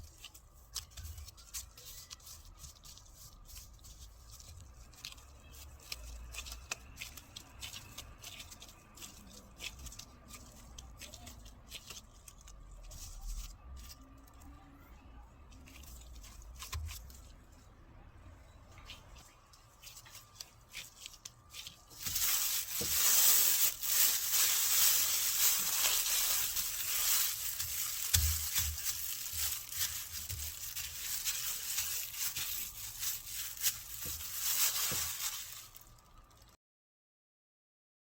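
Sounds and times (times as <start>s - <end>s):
food preparation rustling and scraping: 0.0s - 14.7s, 15.4s - 17.8s, 18.5s - 36.6s.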